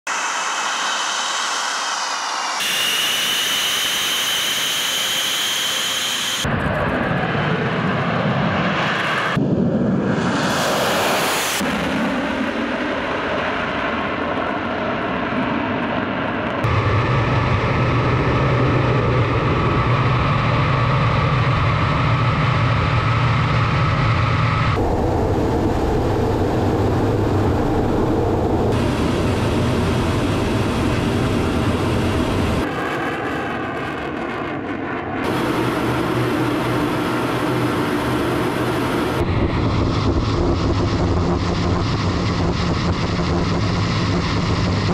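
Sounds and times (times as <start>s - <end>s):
fighter jet taking off rumble: 0.1s - 44.9s
jet engine turbine whine: 0.1s - 44.9s.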